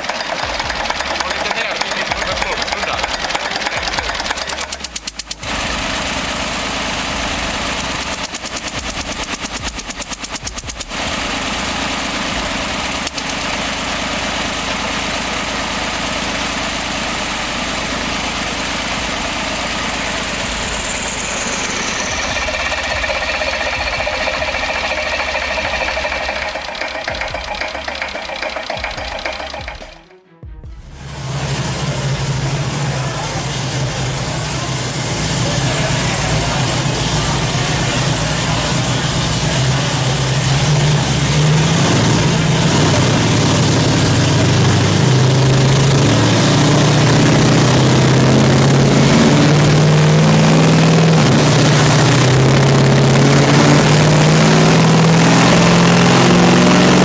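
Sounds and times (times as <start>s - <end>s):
old engine knocking: 0.0s - 30.1s, 33.5s - 57.0s.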